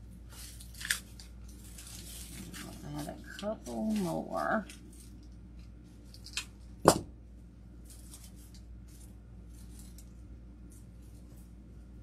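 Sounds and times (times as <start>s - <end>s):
artificial flowers rustling: 0.0s - 6.6s, 7.7s - 12.0s.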